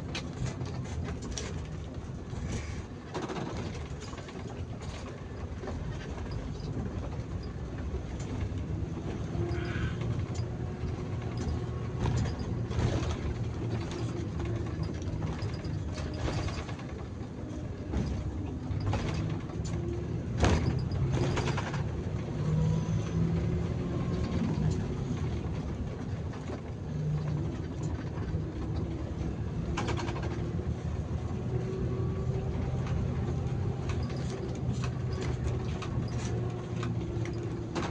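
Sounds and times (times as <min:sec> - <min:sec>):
bus engine and road rumble: 0:00.0 - 0:37.9
rattles and creaks of bus body: 0:00.0 - 0:37.9.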